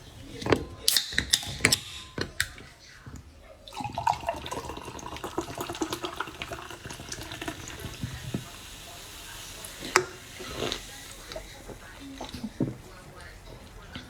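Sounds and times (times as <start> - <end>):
liquid splashing: 0.0 - 14.0.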